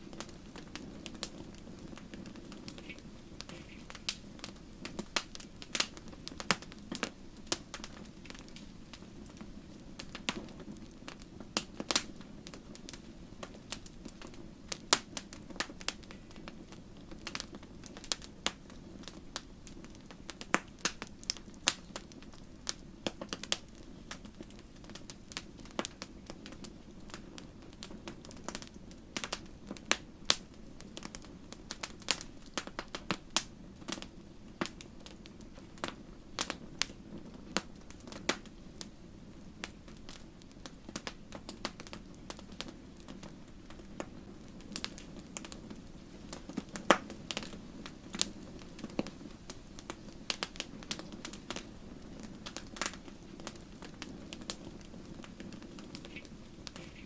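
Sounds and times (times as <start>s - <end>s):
campfire crackling: 0.0s - 57.0s
low rumble of flames: 0.0s - 57.0s.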